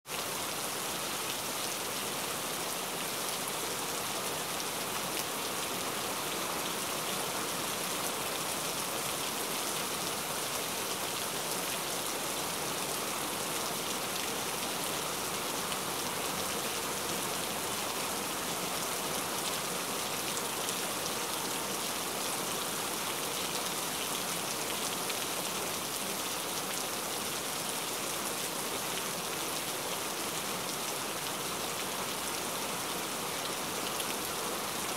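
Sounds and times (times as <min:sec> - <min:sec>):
steady rain patter: 0:00.0 - 0:34.9.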